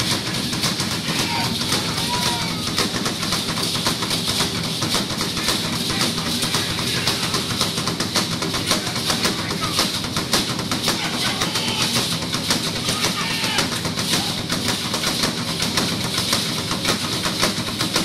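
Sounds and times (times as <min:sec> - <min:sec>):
drums in fast rhythm: 0:00.0 - 0:18.0.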